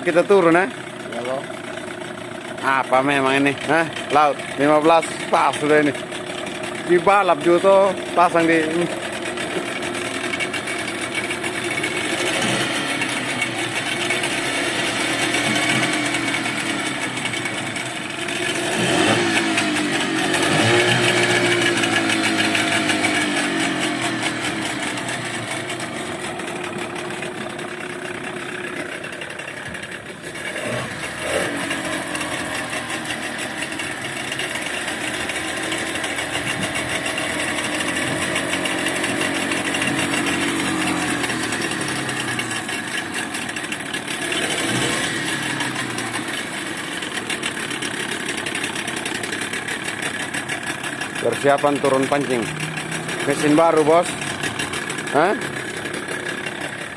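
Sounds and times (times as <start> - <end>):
speedboat engine revving: 0.0 - 56.9.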